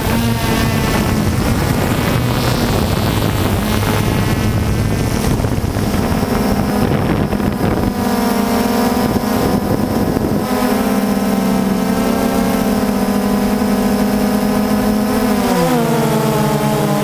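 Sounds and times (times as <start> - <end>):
drone propellers whirring: 0.0 - 17.0
wind buffeting microphone: 0.0 - 17.0.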